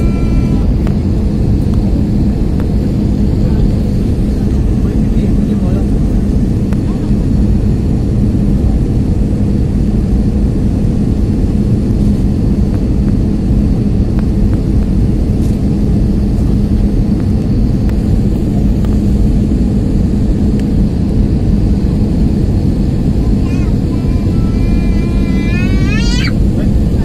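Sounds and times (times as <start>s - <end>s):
aircraft cabin engine rush: 0.0s - 27.0s
constant low hum: 0.0s - 27.0s.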